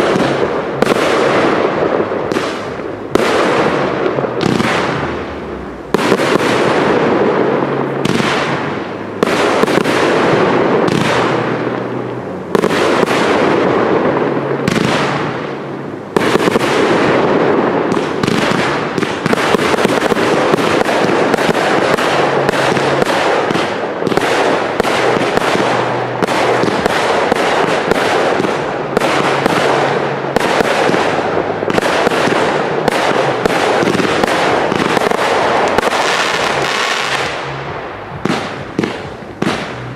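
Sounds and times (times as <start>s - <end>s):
fireworks bursting bangs: 0.0s - 39.9s
fireworks launch reports: 0.0s - 39.9s.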